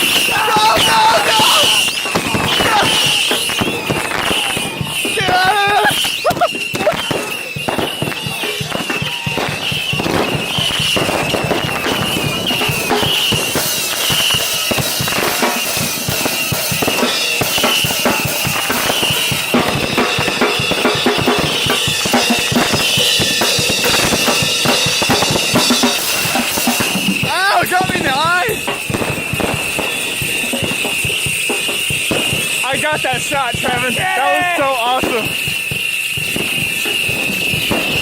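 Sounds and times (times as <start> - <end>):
firework bangs and crackles: 0.0 - 38.0
firework high whistle: 0.0 - 38.0.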